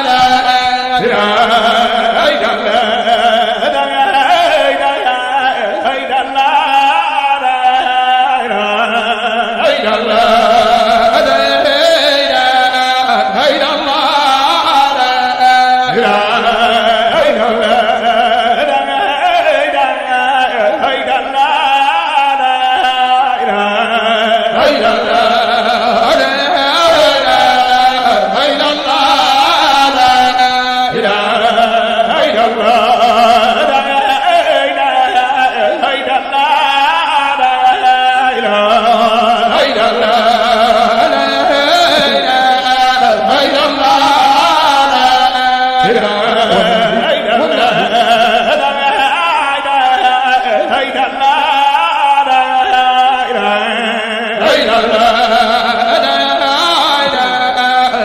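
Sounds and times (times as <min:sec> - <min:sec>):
man chanting a religious poem: 0:00.0 - 0:58.0.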